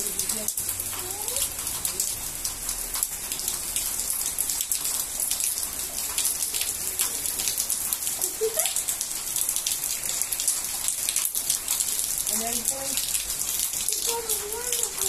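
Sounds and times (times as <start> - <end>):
raindrops ticking on surface: 0.0 - 15.0
torrential rain hiss: 0.0 - 15.0.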